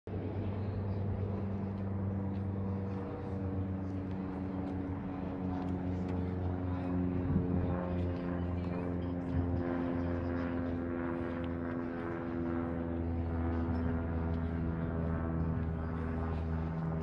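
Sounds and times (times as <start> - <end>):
engine hum: 0.1 - 17.0.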